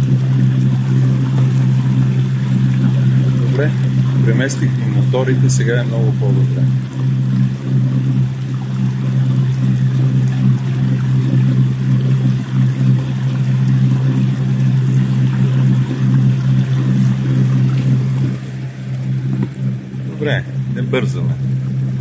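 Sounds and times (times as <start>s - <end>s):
outboard motor running: 0.0s - 22.0s
water rushing and splashing: 0.0s - 22.0s.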